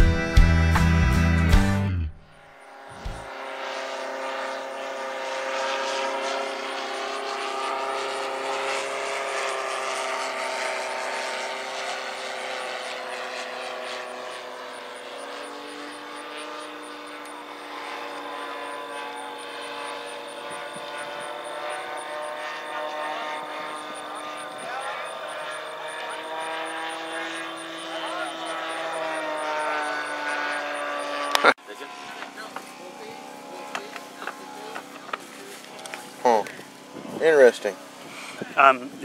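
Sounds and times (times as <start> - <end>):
model aircraft engine droning: 2.4 - 39.0.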